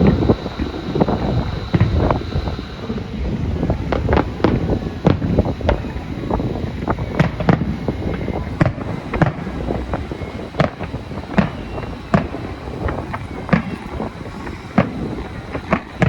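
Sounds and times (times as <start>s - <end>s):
distant fireworks rumble: 0.0s - 16.0s
fireworks bangs and cracks: 0.0s - 16.0s.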